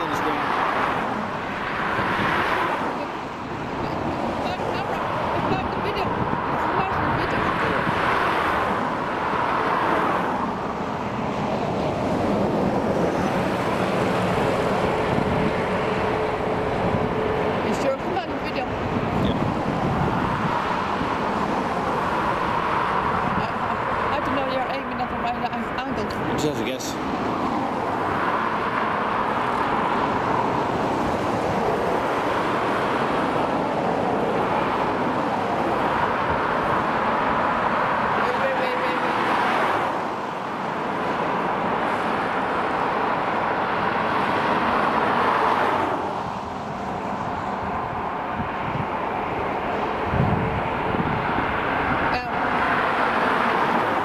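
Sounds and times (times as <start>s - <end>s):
bus engine hum: 0.0s - 54.0s
car driving by: 0.0s - 54.0s
road traffic rushing: 0.0s - 54.0s
wind noise on microphone: 0.8s - 54.0s.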